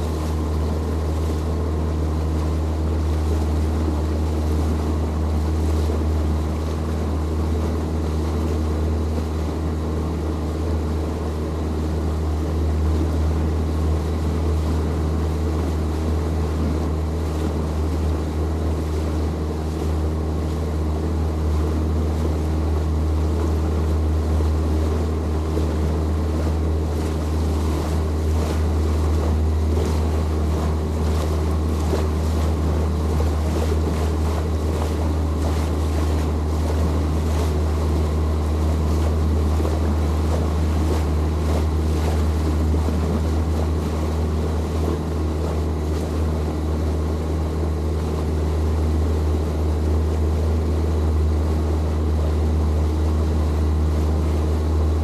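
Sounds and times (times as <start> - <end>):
boat motor droning: 0.0 - 55.0
wind and water hiss: 0.0 - 55.0.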